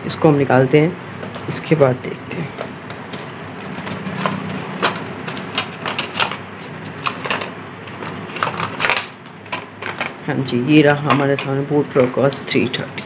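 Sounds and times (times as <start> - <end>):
clicks and rustles of handling: 1.2 - 13.0.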